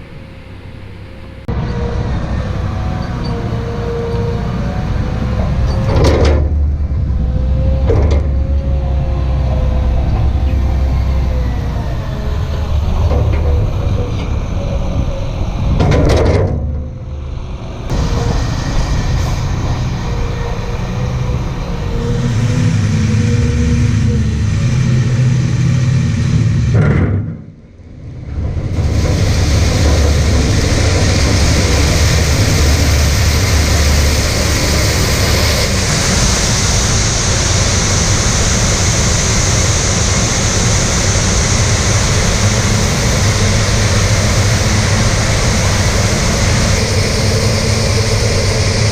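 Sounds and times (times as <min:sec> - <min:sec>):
heavy farm machinery running: 0:00.0 - 0:48.9.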